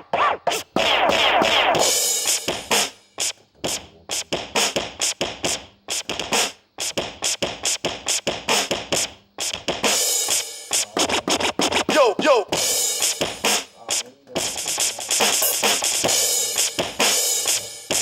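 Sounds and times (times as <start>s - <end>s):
hip-hop beat: 0.0s - 18.0s.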